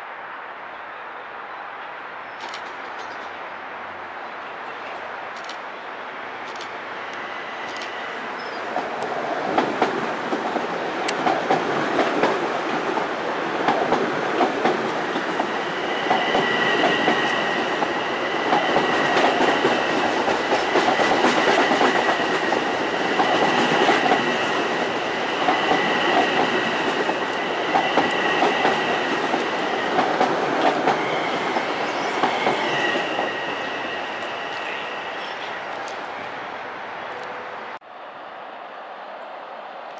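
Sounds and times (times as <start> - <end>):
electric train passing: 5.1 - 37.8.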